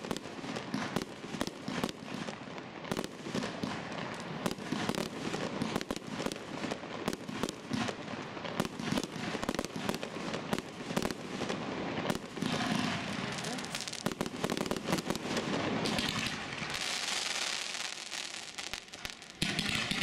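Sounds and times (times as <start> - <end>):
firework bangs: 0.0 - 20.0
fireworks crackling: 0.0 - 20.0.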